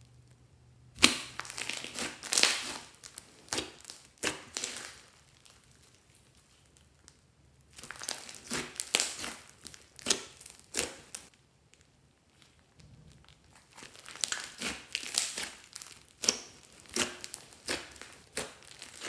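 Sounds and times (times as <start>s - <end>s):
slime crackling and popping: 1.0s - 19.0s.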